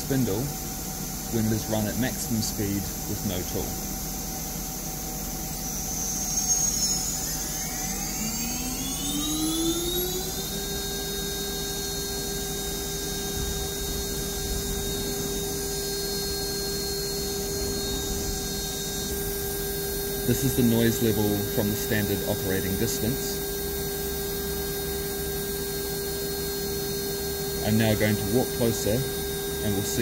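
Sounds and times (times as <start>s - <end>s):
router spindle whine: 0.0s - 30.0s.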